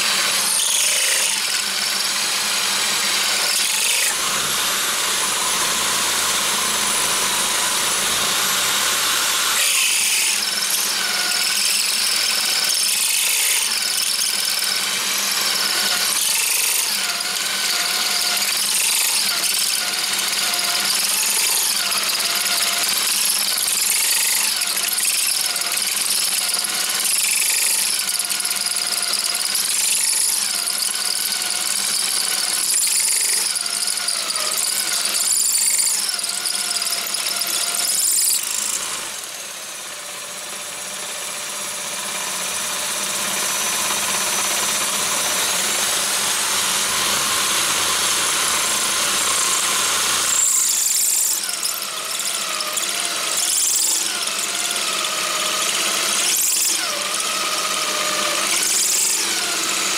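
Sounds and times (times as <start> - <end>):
power drill cutting steel: 0.0 - 59.9.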